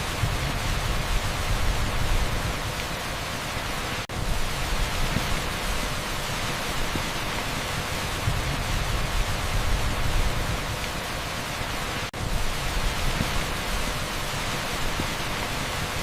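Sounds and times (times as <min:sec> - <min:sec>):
heavy rain on asphalt: 0:00.0 - 0:16.0.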